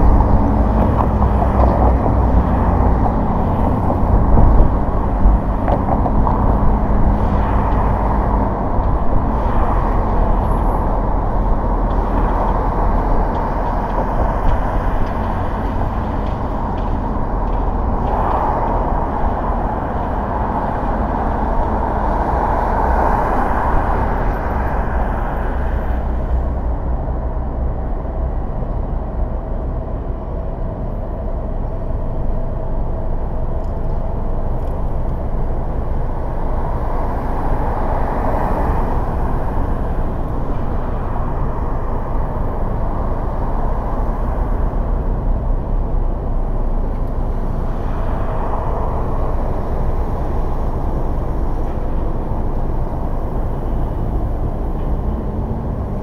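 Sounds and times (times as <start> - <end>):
car engine: 0.0 - 56.0
deep rumble: 0.0 - 56.0
tyre road noise: 0.0 - 56.0.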